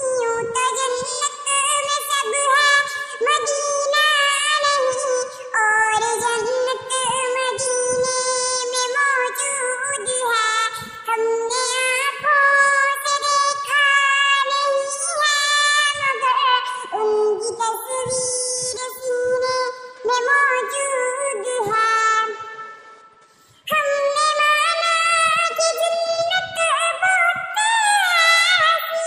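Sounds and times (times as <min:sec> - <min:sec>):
synthetic voice singing devotional song: 0:00.0 - 0:29.0.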